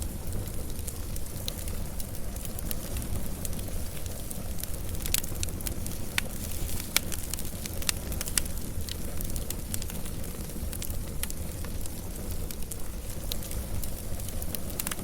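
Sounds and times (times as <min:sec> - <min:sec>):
burning wood crackling and popping: 0:00.0 - 0:15.0
wood fire rumbling: 0:00.0 - 0:15.0.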